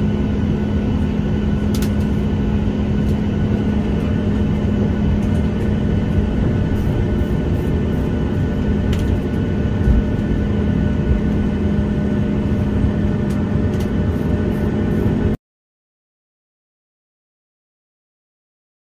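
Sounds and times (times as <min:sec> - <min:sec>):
jet cabin engine rumble: 0:00.0 - 0:15.4
steady cabin hum: 0:00.0 - 0:15.4.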